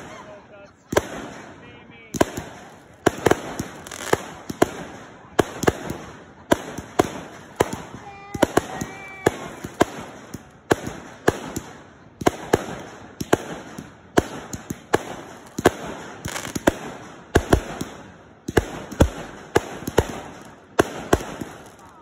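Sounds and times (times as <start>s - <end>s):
deep fireworks booms: 0.0s - 0.3s, 0.9s - 22.0s
fireworks bangs: 0.0s - 22.0s.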